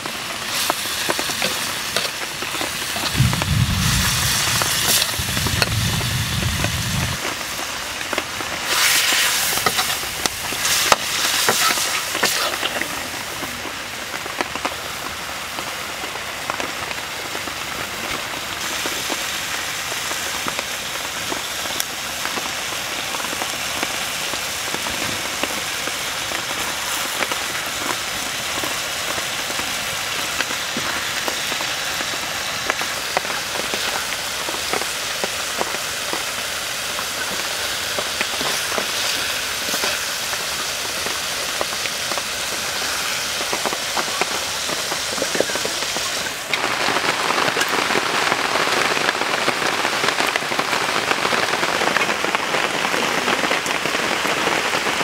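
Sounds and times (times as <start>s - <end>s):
food sizzling: 0.0s - 15.6s, 16.2s - 52.1s
small crackles: 0.0s - 54.9s.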